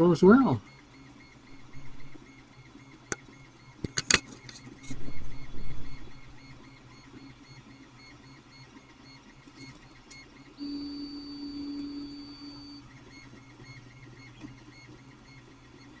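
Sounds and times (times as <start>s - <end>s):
printer stepper motors whining: 0.0s - 16.0s.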